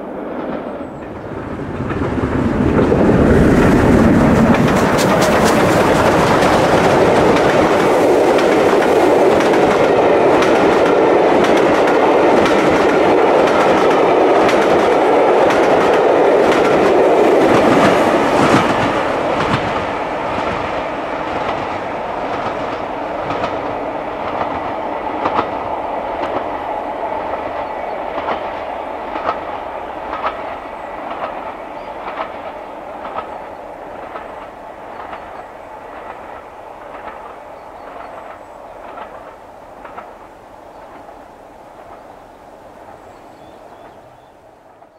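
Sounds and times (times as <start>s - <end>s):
train wheels clattering over rail joints: 0.4s - 25.6s, 27.3s - 42.1s.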